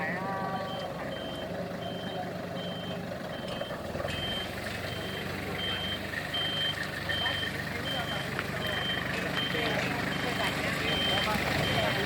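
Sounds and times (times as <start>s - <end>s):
vehicle engine running: 0.0s - 12.0s
reversing alarm beeping: 0.4s - 12.0s.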